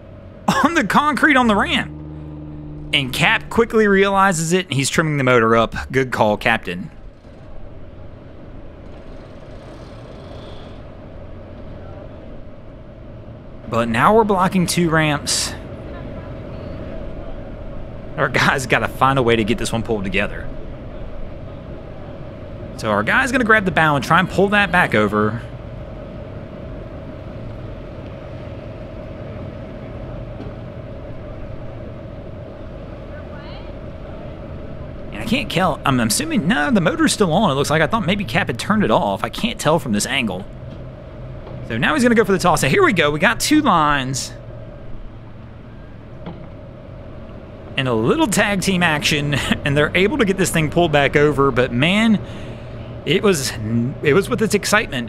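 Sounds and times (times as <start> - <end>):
faint steady whine: 0.0 - 55.0
low engine hum: 0.0 - 55.0.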